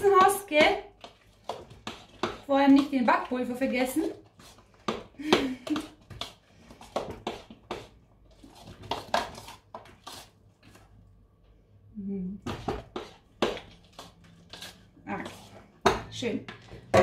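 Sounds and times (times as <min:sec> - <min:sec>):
spoon stirring batter in bowl: 0:00.0 - 0:11.1, 0:12.4 - 0:17.0.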